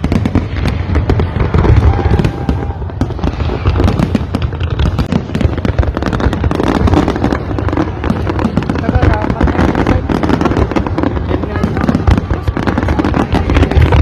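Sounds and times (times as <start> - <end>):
fireworks crackling pops: 0.0 - 14.0.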